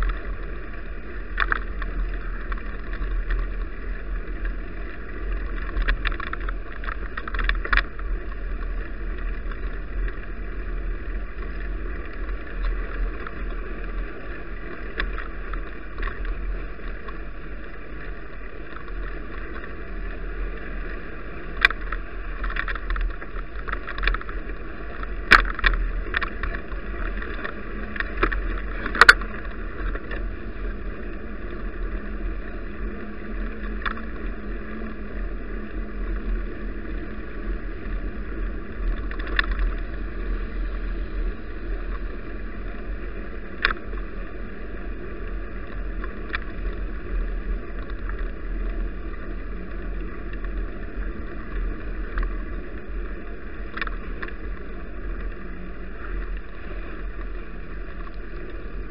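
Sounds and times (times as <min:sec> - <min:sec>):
bicycle road and wind noise: 0:00.0 - 0:58.9.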